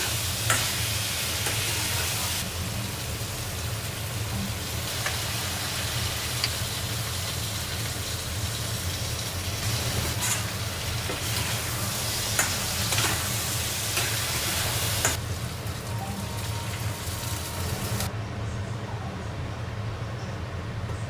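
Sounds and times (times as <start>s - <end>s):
food sizzling in a frying pan: 0.0s - 18.1s.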